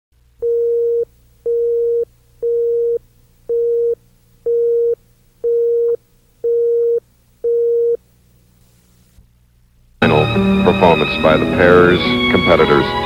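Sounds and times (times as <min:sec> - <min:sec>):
faint low hum: 0:00.2 - 0:12.9.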